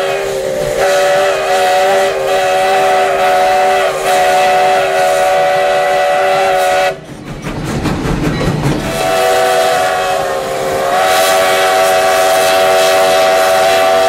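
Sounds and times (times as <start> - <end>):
steam locomotive whistle blast: 0.0 - 7.1, 8.8 - 14.0.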